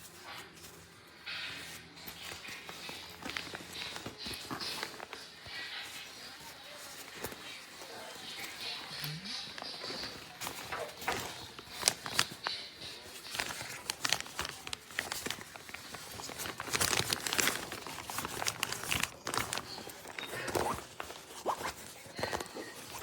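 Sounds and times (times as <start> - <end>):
fabric rustling and crinkling: 0.0 - 23.0.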